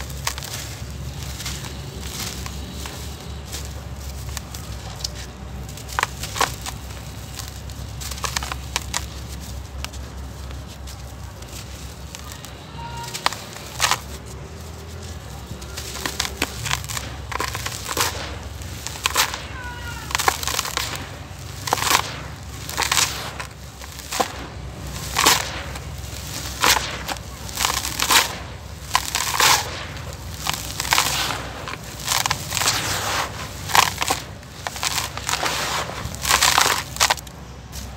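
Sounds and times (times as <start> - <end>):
hands crumbling dry dirt: 0.0 - 37.9.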